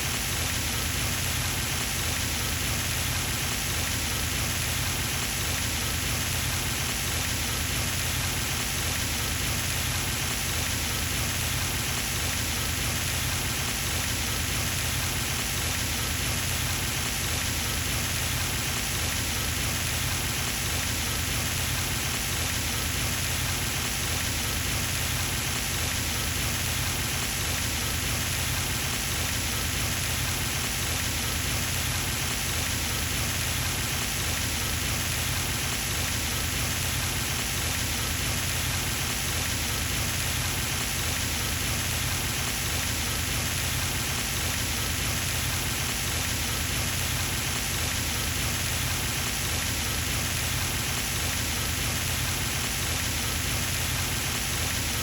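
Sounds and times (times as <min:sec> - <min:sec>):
fountain water splashing: 0:00.1 - 0:55.0.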